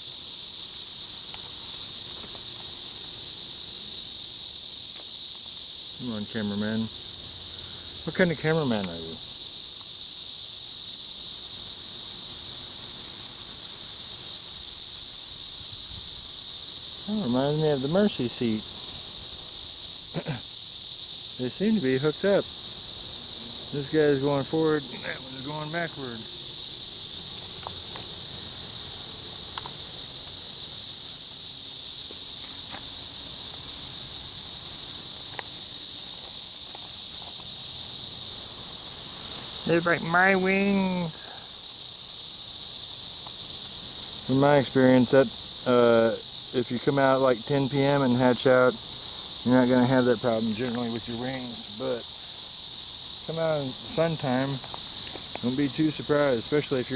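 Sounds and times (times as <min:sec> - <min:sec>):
cicadas droning: 0:00.0 - 0:56.9.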